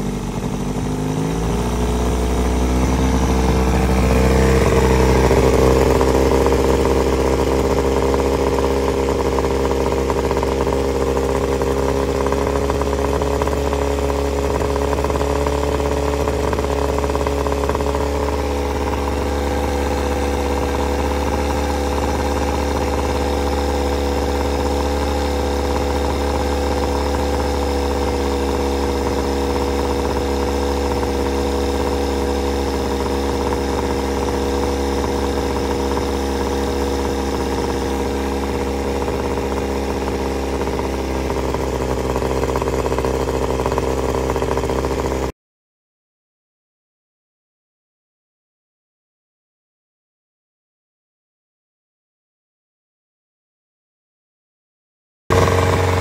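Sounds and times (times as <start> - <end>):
outboard motor running: 0.0 - 45.3, 55.3 - 56.0.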